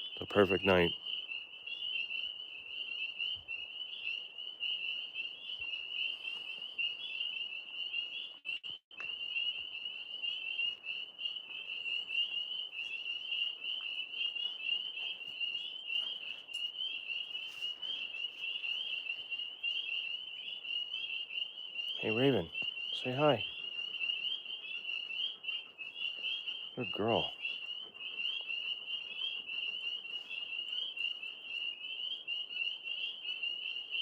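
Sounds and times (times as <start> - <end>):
chorus of tree frogs trilling: 0.0 - 34.0.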